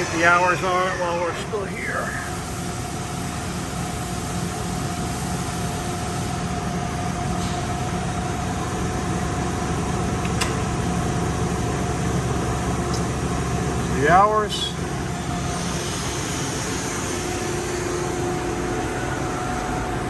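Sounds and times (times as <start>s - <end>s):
machine hum with whine: 0.0s - 20.0s.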